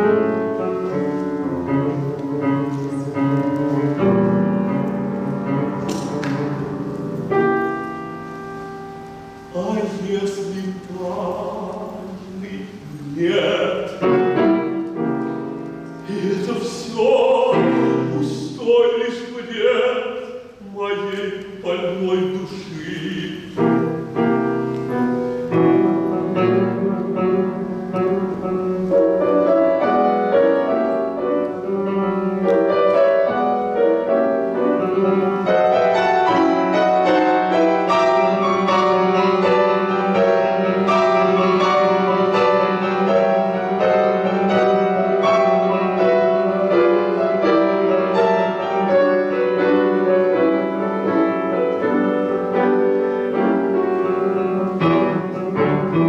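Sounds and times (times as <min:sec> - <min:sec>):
classical piano piece: 0:00.0 - 0:56.0.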